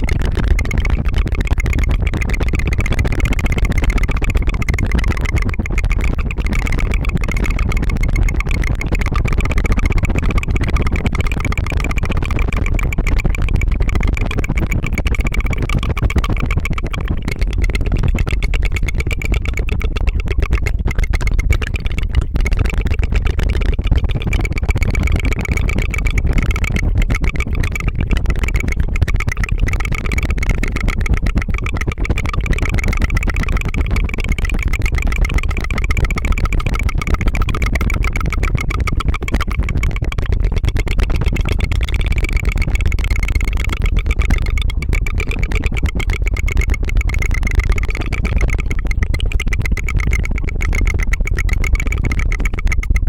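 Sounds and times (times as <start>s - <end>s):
tongue trill rattling buzz: 0.0s - 53.0s.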